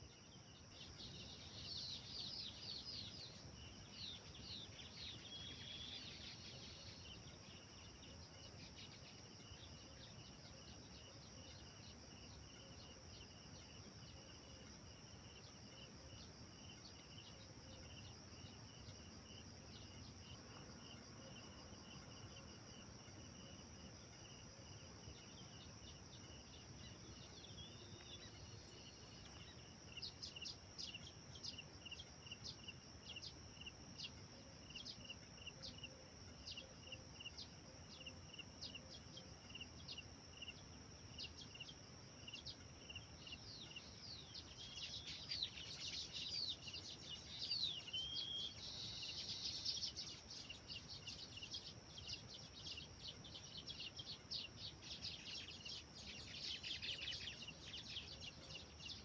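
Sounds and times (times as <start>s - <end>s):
high insect drone: 0.0s - 59.0s
small birds chirping: 0.0s - 59.0s
varied sweeping birdsong: 0.4s - 59.0s.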